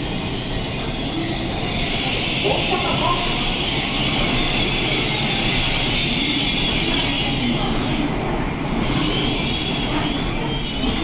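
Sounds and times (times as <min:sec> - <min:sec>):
train rushing past: 0:00.0 - 0:11.0.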